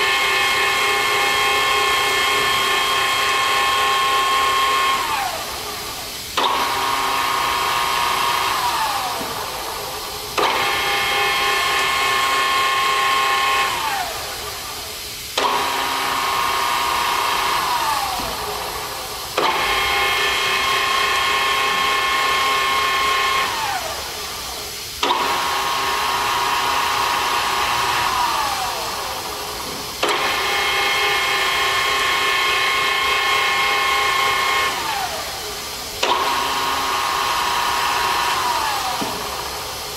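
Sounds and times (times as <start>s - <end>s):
drill press motor whining: 0.0s - 39.9s.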